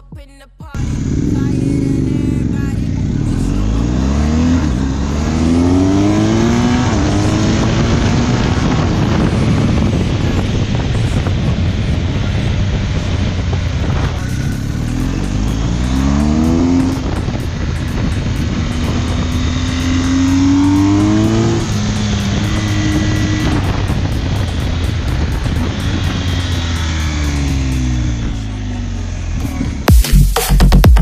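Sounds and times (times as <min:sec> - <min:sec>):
motorcycle engine accelerating: 0:00.8 - 0:31.0.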